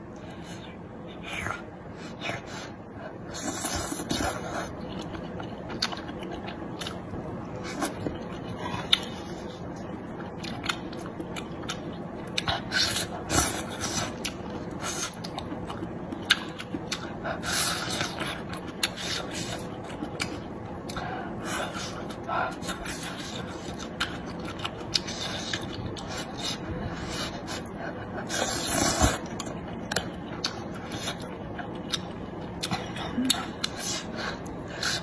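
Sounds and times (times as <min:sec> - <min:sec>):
chewing: 0:03.4 - 0:35.0.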